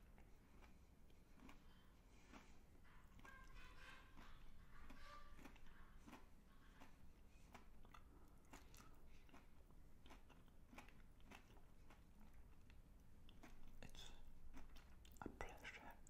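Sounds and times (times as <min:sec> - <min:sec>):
chewing chocolate bar: 0:00.0 - 0:16.0.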